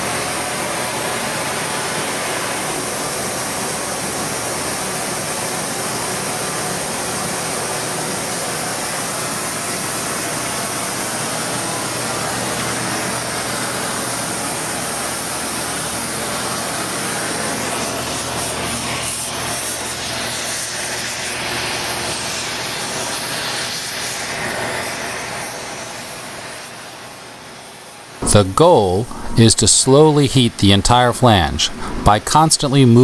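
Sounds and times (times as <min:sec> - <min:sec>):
gas torch flame hissing: 0:00.2 - 0:32.6.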